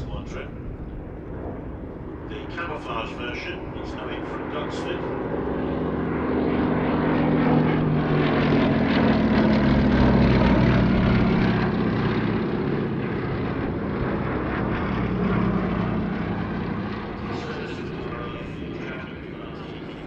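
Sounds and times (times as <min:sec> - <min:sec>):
aircraft radial engine and propeller: 0:00.0 - 0:20.0.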